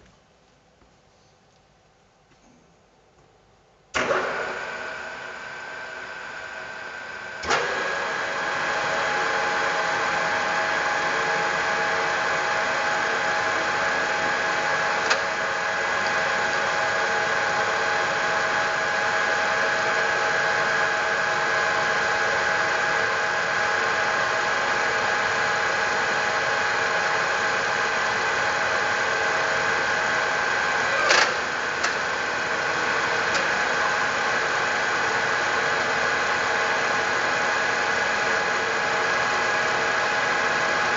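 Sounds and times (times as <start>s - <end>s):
milling machine motor whine: 4.0s - 40.9s.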